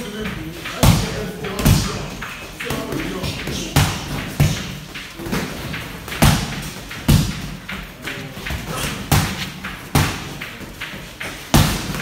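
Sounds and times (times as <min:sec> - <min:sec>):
boxing gloves punching thuds: 0:00.7 - 0:12.0.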